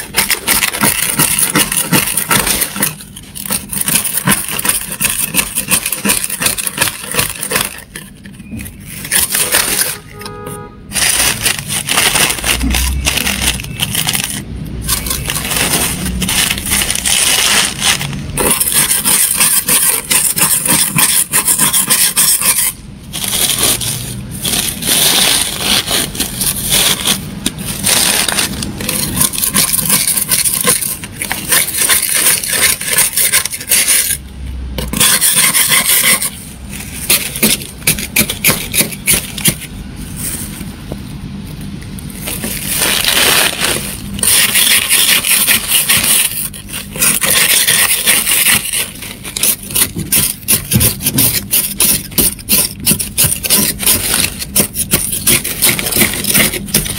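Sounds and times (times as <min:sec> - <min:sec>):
plastic scraper scraping ice: 0:00.0 - 0:34.2, 0:34.8 - 0:40.8, 0:42.1 - 0:56.9.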